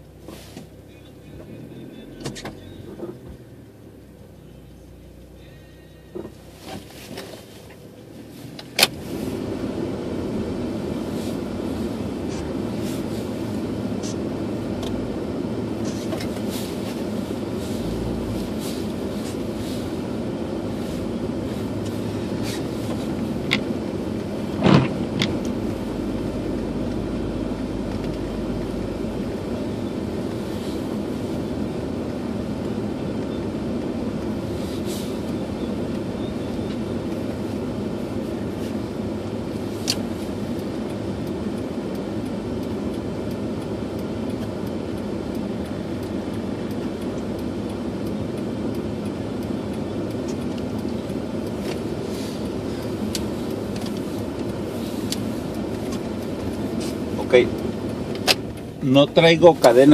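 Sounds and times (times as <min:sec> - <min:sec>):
car cabin noise: 0:00.0 - 0:59.9.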